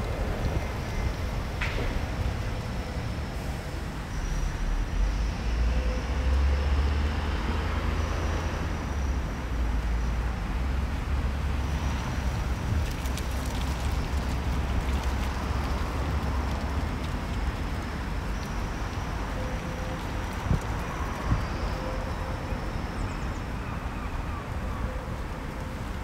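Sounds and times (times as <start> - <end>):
distant city traffic rumble: 0.0 - 26.0.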